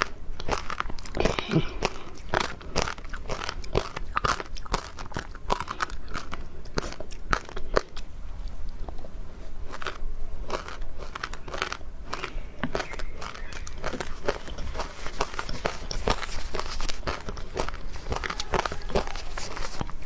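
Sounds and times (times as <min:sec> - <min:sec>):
crunching ice while chewing: 0:00.0 - 0:20.0.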